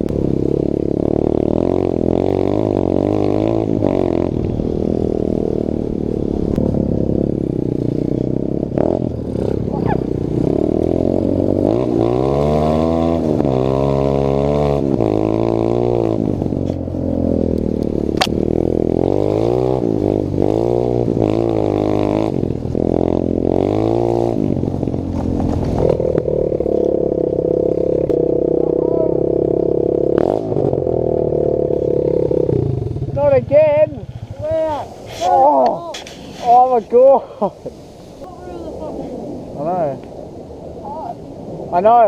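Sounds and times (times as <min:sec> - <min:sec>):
pit bike engine revving: 0:00.0 - 0:37.5.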